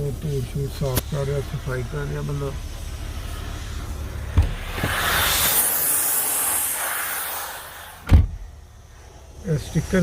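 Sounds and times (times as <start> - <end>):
air jet hissing: 0.0 - 10.0.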